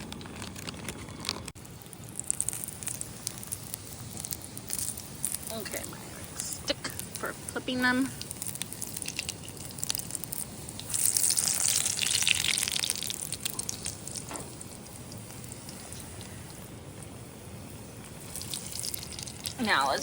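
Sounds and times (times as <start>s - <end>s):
donuts sizzling in hot oil: 1.5s - 20.0s.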